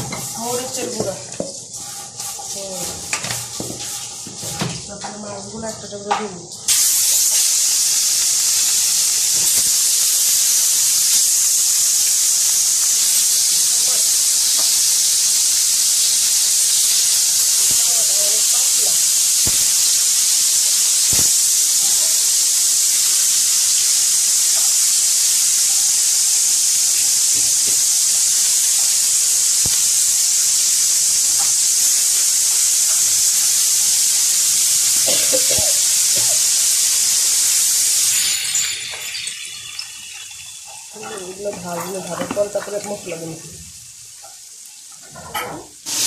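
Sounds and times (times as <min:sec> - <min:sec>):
fish sizzling in a pan: 0:00.0 - 0:46.0.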